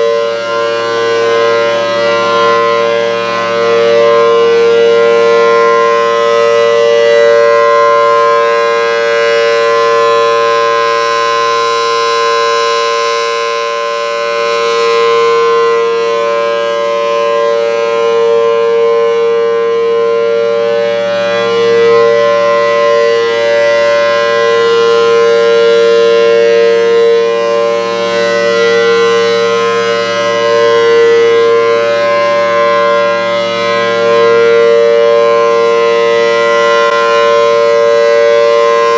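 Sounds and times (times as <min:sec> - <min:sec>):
tornado siren two-note chord: 0:00.0 - 0:38.9.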